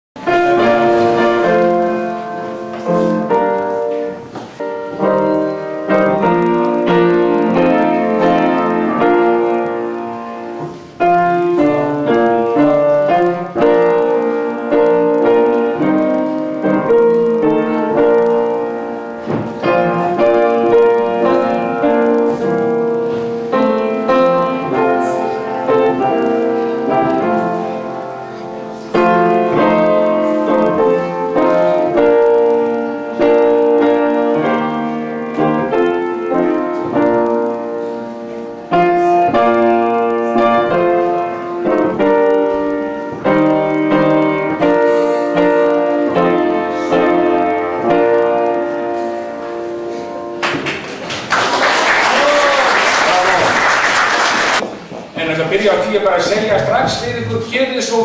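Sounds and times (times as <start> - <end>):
upright piano playing chords and melody: 0.2 - 58.0.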